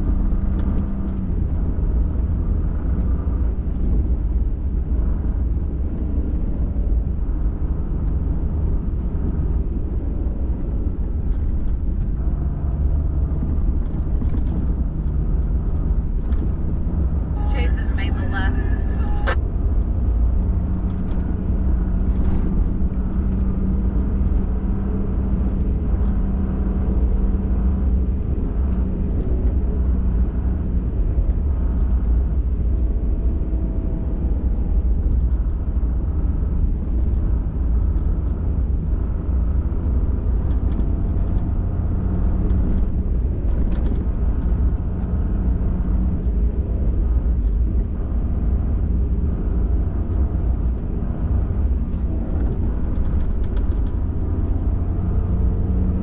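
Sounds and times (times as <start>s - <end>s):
pickup truck engine rumbling: 0.0s - 56.0s.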